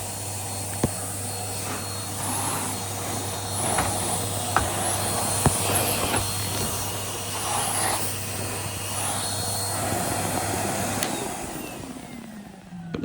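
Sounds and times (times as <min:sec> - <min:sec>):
vacuum cleaner motor humming: 0:00.0 - 0:13.0.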